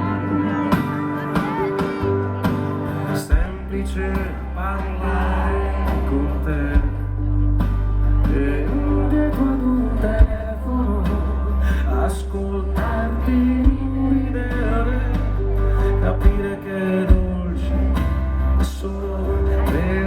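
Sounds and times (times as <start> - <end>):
guitar: 0.0 - 20.0
sustained bass notes: 0.0 - 20.0.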